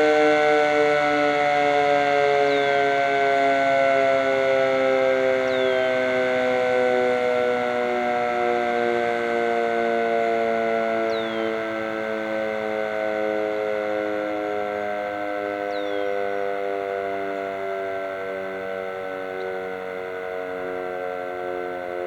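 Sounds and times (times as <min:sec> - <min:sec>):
fire siren winding down: 0:00.0 - 0:22.0.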